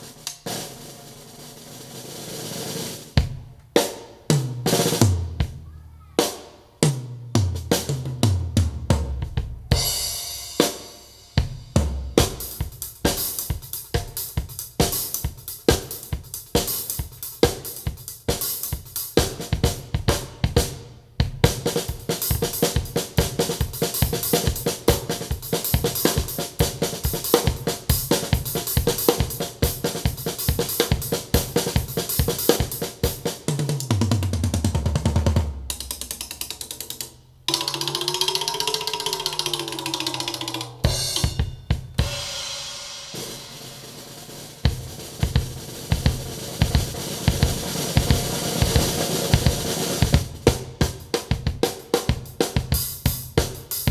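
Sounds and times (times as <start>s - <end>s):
drum kit music through speaker: 0.0s - 53.9s.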